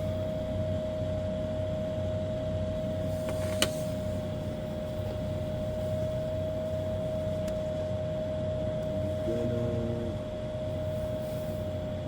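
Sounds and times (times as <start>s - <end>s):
steady mid-pitched hum: 0.0s - 12.0s.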